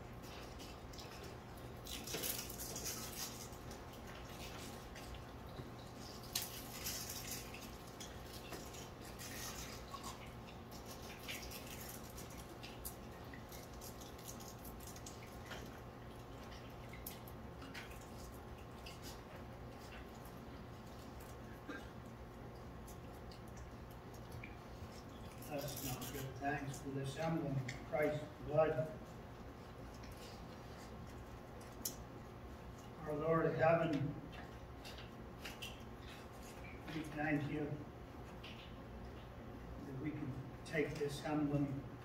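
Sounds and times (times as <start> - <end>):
steady low hum: 0.0 - 42.0
small clicks and rustles: 0.1 - 26.8, 29.0 - 33.0, 34.3 - 37.2, 38.2 - 39.4.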